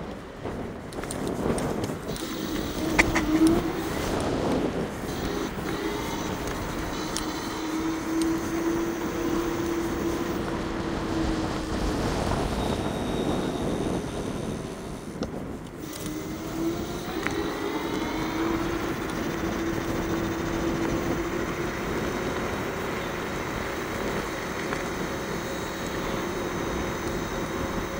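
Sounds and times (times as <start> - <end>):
electric motor whine: 0.0 - 27.9
tyre noise on pavement: 0.0 - 27.9
wind rushing over microphone: 0.0 - 27.9.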